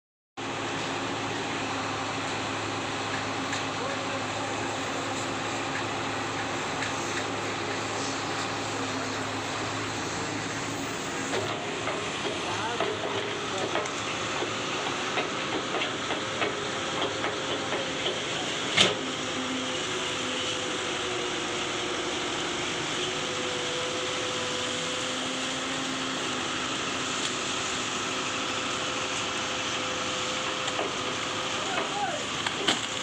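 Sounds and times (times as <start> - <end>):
excavator whining: 0.4 - 33.0.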